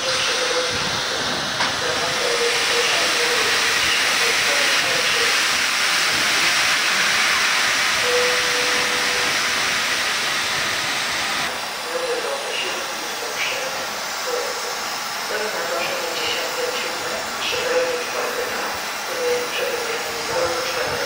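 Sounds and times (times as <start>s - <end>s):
steam locomotive venting hiss: 0.0s - 21.0s.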